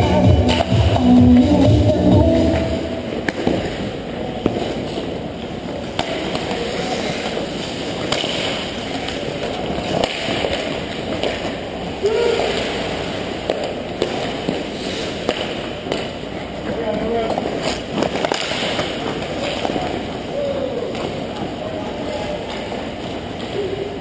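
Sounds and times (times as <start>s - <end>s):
sticks and puck clacking: 3.2s - 23.9s
skates scraping on ice: 3.3s - 23.8s.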